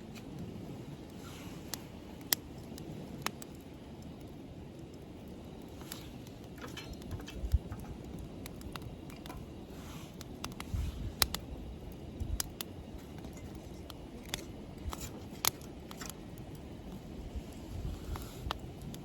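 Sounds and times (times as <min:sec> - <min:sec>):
low background rumble: 0:00.0 - 0:19.0
wood fire crackling and popping: 0:00.0 - 0:19.0.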